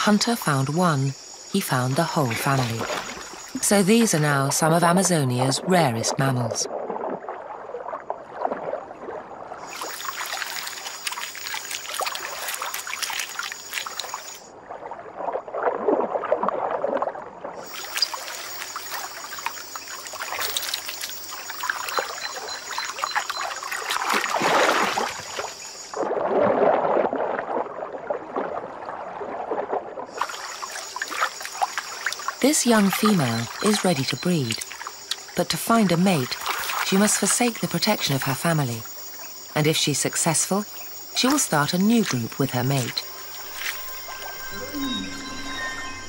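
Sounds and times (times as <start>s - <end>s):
water splashing and gurgling: 0.0s - 46.0s.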